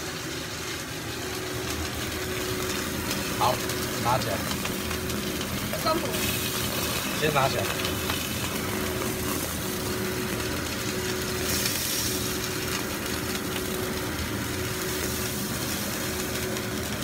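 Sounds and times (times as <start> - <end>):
range hood fan humming: 0.0 - 17.0.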